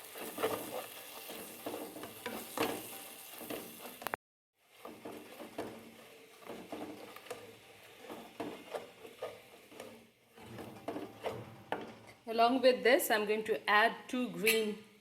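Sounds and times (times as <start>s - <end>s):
spoon scraping a pot: 0.0s - 12.2s.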